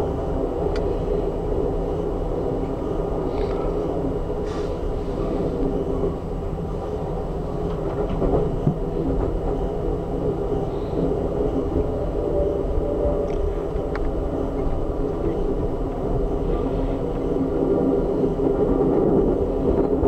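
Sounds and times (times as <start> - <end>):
train car rumbling along rails: 0.0 - 20.0.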